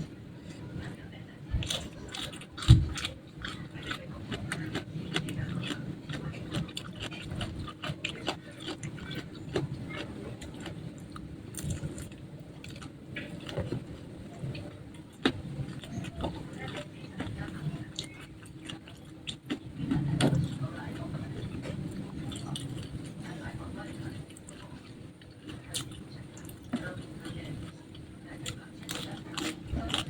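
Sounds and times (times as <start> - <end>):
chewing crispy food crunches: 1.6 - 30.0.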